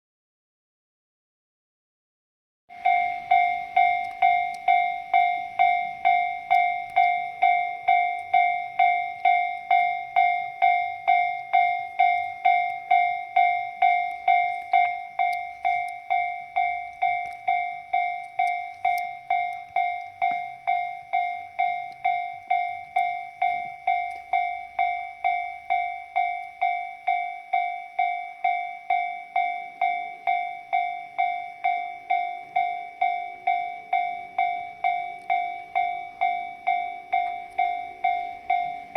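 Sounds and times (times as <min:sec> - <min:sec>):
level crossing bell clanging: 0:02.7 - 0:38.9.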